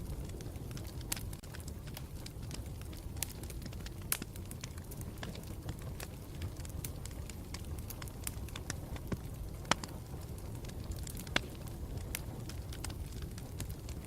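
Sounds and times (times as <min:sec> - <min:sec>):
campfire crackling and popping: 0:00.0 - 0:14.0
campfire flames rumbling: 0:00.0 - 0:14.0.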